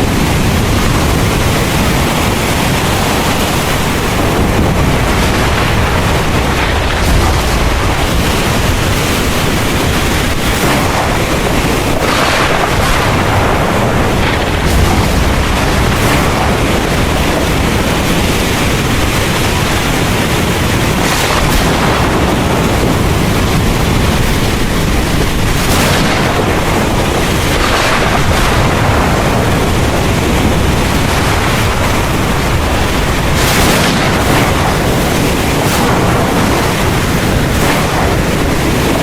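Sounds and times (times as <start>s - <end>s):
constant low rumble: 0.0s - 39.0s
heavy rain pouring: 0.0s - 39.0s.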